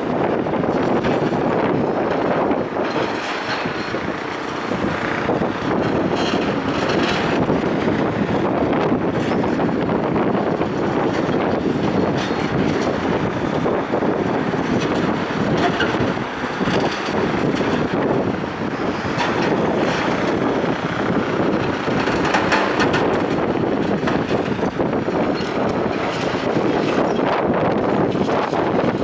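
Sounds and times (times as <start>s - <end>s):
wind blowing over microphone: 0.0s - 29.0s.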